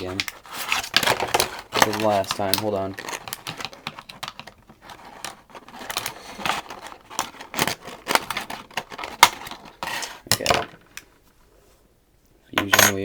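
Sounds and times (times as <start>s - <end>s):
plastic packaging tray: 0.0s - 11.0s.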